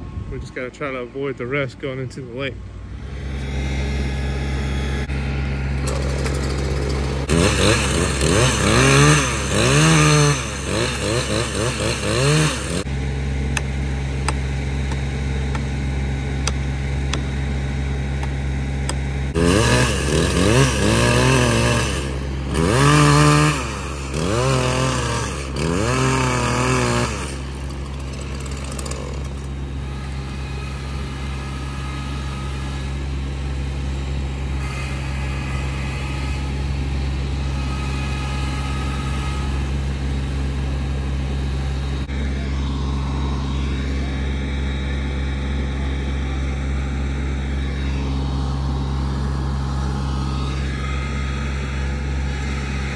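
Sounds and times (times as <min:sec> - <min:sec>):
chainsaw idling and revving: 0:02.9 - 0:52.9.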